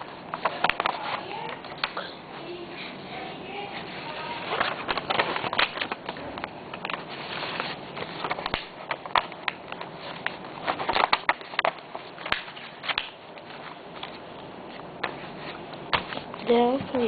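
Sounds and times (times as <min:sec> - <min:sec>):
paper being folded and creased: 0:00.0 - 0:01.9, 0:03.7 - 0:17.0.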